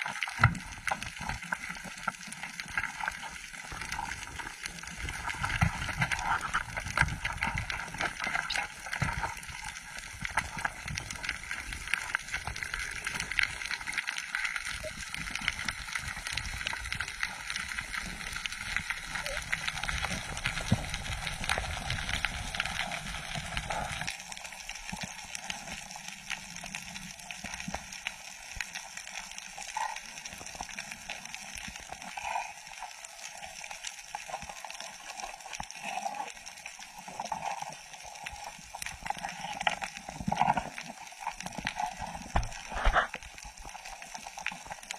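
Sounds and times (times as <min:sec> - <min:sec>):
dense crackling clicks: 0:00.0 - 0:44.9
underwater rush of water: 0:00.0 - 0:44.9.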